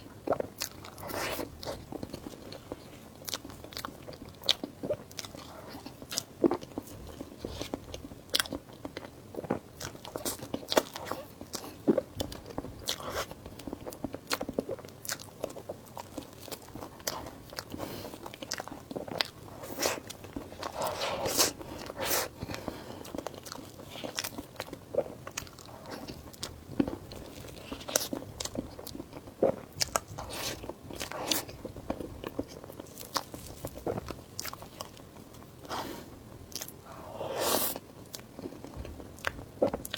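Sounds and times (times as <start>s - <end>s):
biting and chewing crunches: 0.2s - 35.8s.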